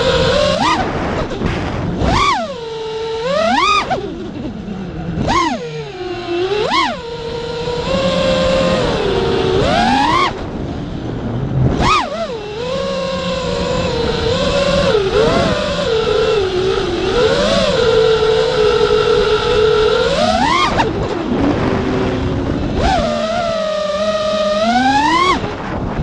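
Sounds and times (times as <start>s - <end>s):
toy car motor whining: 0.0s - 0.9s, 2.0s - 10.4s, 11.7s - 25.5s.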